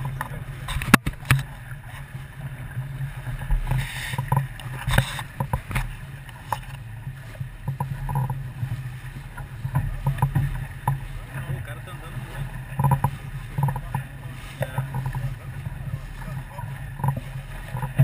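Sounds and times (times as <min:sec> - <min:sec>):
steady low rumble: 0:00.0 - 0:18.0
water splashing along hull: 0:00.0 - 0:18.0.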